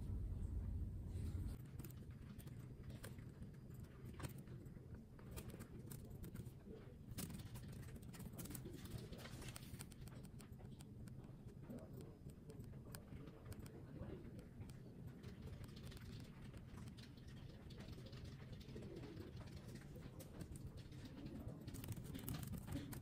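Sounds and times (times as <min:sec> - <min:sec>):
low room hum: 0:00.0 - 0:23.0
laptop keyboard typing: 0:01.5 - 0:23.0.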